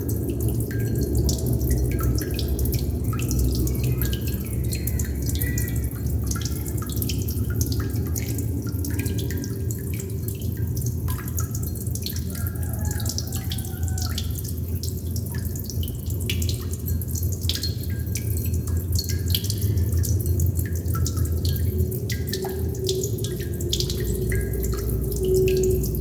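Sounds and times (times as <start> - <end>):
low steady rumble: 0.0 - 26.0
water droplets dripping: 0.0 - 26.0.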